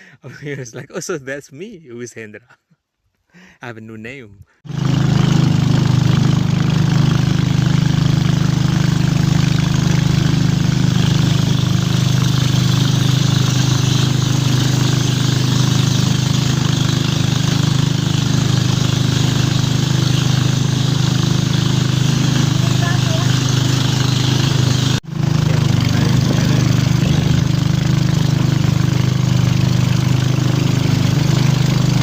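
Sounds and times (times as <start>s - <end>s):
small engine humming: 4.7s - 32.0s.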